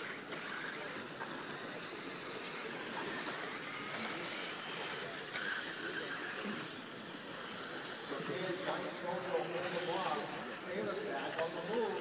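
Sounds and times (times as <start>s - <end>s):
electric motors hissing: 0.0s - 12.0s.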